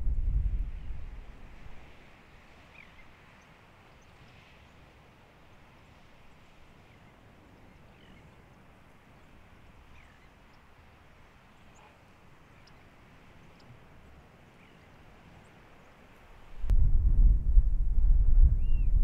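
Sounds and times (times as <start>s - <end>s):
soft outdoor hiss: 0.0s - 18.9s
distant bird calls: 0.7s - 16.5s.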